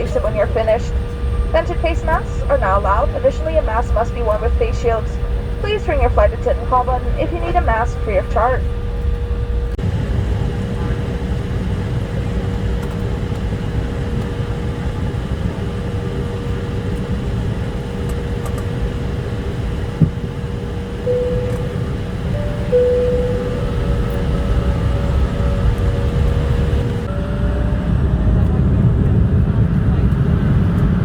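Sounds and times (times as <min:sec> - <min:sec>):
airliner cabin rumble: 0:00.0 - 0:31.0
continuous whine: 0:00.0 - 0:31.0.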